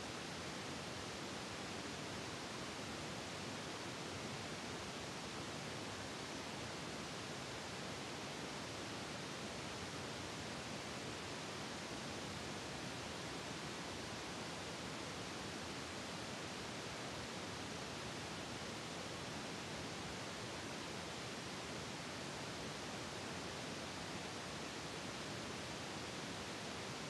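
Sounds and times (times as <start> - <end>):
steady static hiss: 0.0 - 27.0.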